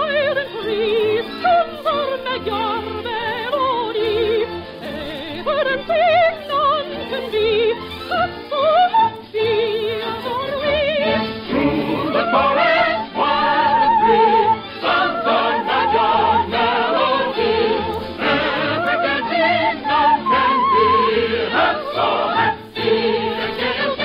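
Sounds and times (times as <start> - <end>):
choir singing: 0.0 - 24.0
operatic voices singing: 0.0 - 24.0.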